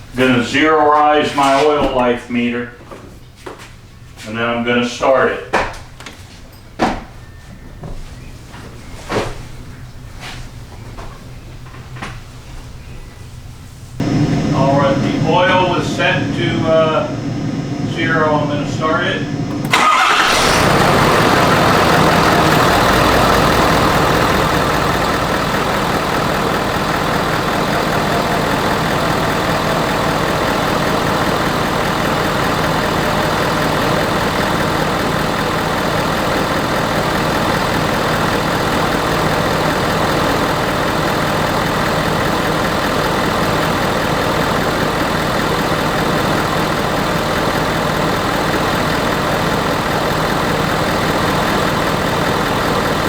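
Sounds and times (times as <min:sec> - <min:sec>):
diesel engine idling: 0:00.0 - 0:02.7, 0:12.8 - 0:53.0.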